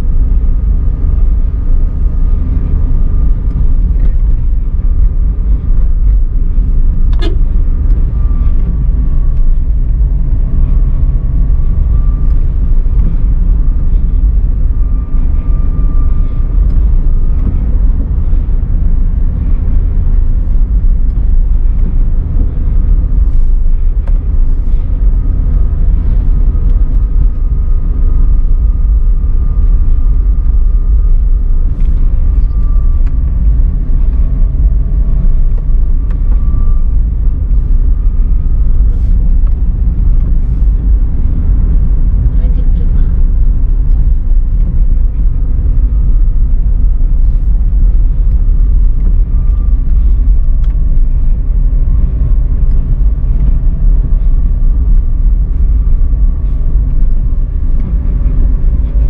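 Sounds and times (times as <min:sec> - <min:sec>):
car engine and road rumble: 0:00.0 - 0:59.0
faint steady whine: 0:00.0 - 0:59.0.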